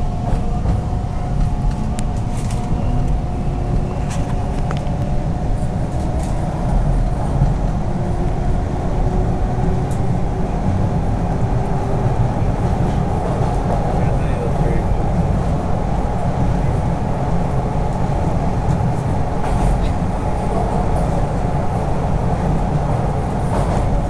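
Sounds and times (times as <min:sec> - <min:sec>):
train rumbling in tunnel: 0:00.0 - 0:24.0.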